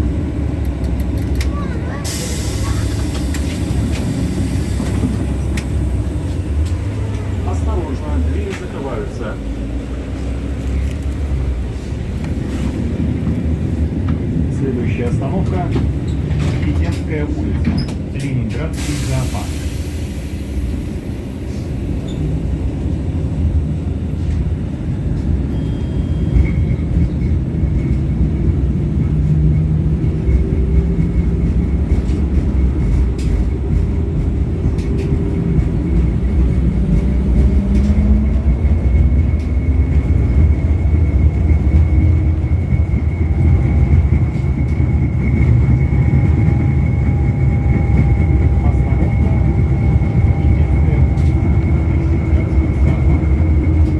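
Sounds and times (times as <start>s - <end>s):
tram wheels rumbling on rail: 0.0s - 53.9s.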